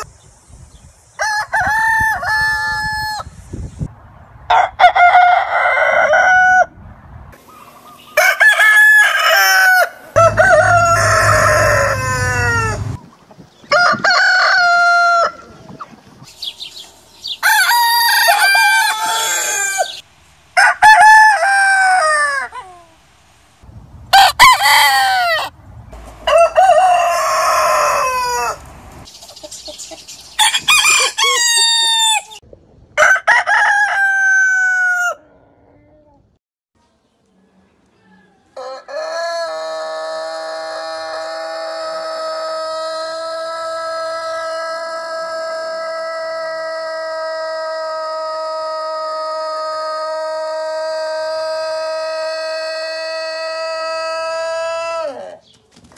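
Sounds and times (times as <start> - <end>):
roosters crowing: 1.2 - 3.4, 4.5 - 6.8, 7.4 - 13.0, 13.6 - 23.1, 24.1 - 29.1, 30.3 - 32.4, 33.0 - 35.6, 38.1 - 55.4.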